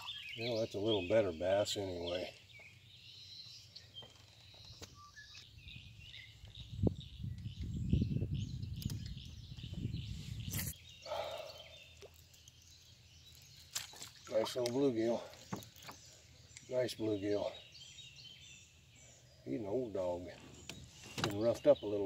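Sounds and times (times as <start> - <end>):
songbirds chirping faintly: 0.0 - 22.0.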